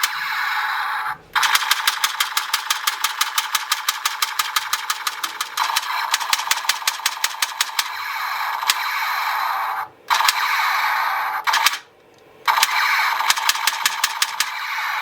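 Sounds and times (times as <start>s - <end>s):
toy pistol clicking shots: 0.0s - 0.6s, 1.4s - 9.5s, 10.1s - 11.9s, 12.5s - 15.0s
toy pistol buzzing: 0.0s - 11.9s, 12.5s - 15.0s.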